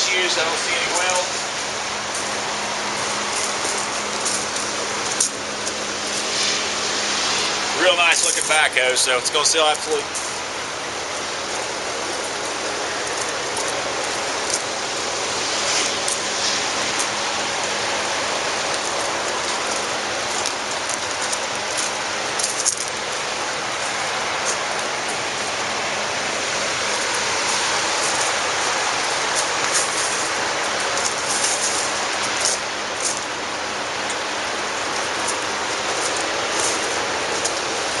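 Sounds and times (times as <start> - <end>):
steady outdoor hiss: 0.0 - 38.0.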